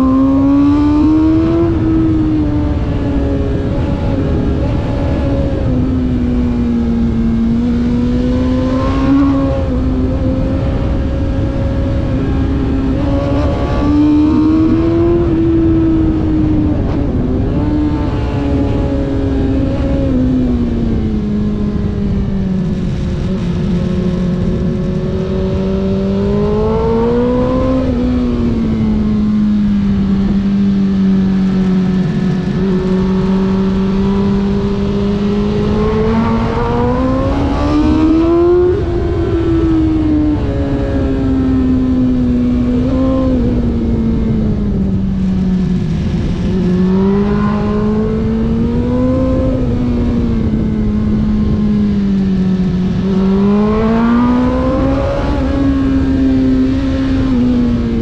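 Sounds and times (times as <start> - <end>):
racing vehicle engine: 0.0 - 58.0.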